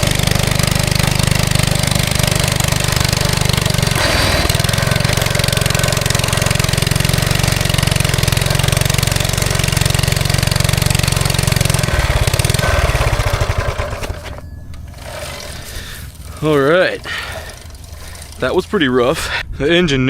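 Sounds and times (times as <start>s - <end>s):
single-cylinder engine running: 0.0s - 19.4s.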